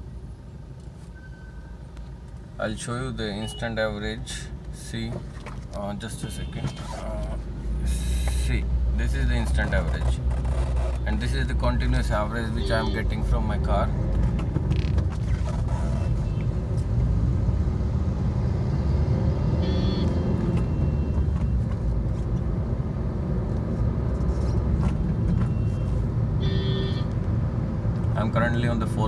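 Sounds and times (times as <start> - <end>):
road rumble: 0.0 - 29.0.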